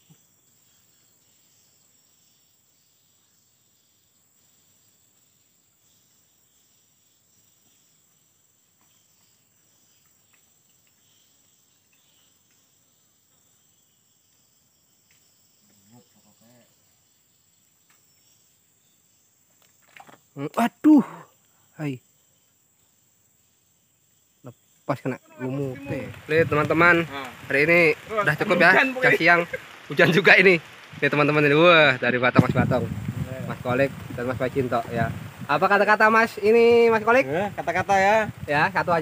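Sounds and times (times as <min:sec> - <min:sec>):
crickets chirring: 0:00.0 - 0:39.0.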